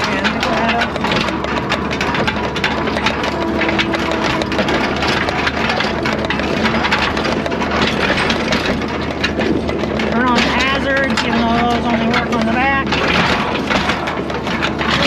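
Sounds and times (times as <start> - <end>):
machine rattling and clanking: 0.0 - 15.0
skid steer engine running: 0.0 - 15.0.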